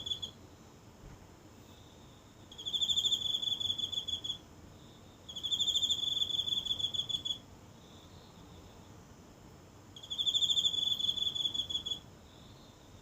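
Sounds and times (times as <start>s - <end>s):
insect high-pitched trills: 0.0s - 0.4s, 1.7s - 8.8s, 9.9s - 13.0s.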